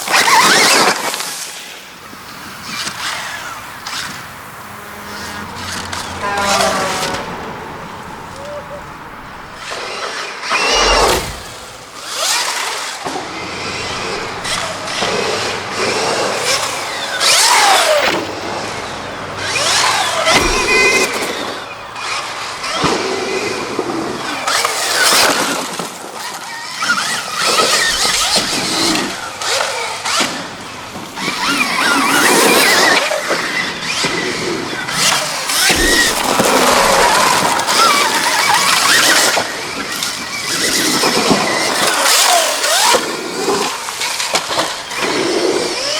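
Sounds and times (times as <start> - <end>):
electric motorbike motor whining: 0.0 - 45.9.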